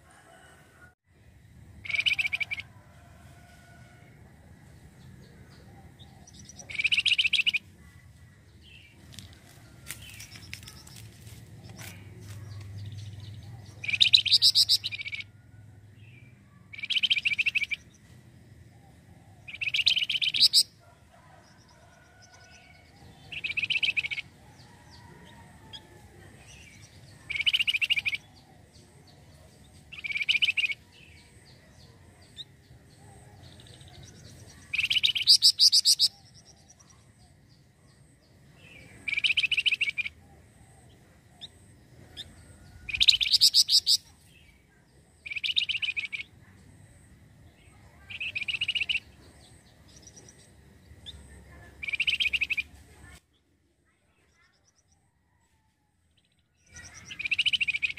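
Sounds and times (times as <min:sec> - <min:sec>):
songbird singing high phrases: 0:01.8 - 0:02.7, 0:04.8 - 0:09.3, 0:10.0 - 0:15.4, 0:16.0 - 0:18.1, 0:18.8 - 0:20.8, 0:22.4 - 0:25.1, 0:25.8 - 0:46.8, 0:47.4 - 0:53.5, 0:56.2 - 0:57.9.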